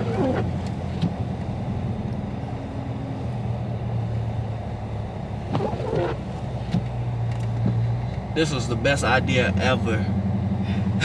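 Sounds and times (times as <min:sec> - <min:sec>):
car engine low drone: 0:00.0 - 0:11.0
tyre and road noise: 0:00.0 - 0:11.0.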